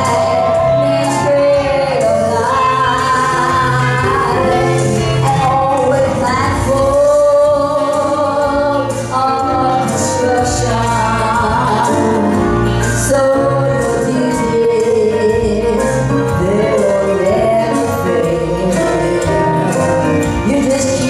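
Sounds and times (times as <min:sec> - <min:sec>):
bass line: 0:00.0 - 0:21.0
keyboard: 0:00.0 - 0:21.0
woman singing into a microphone: 0:00.0 - 0:21.0.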